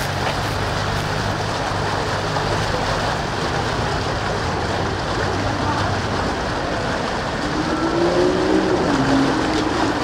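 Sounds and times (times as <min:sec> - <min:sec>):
floodwater rushing around bridge pier: 0:00.0 - 0:10.0.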